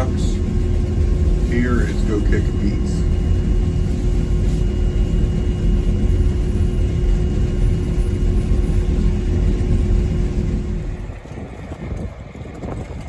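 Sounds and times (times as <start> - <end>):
constant machine hum: 0.0 - 13.0
machinery low rumble: 0.0 - 13.0.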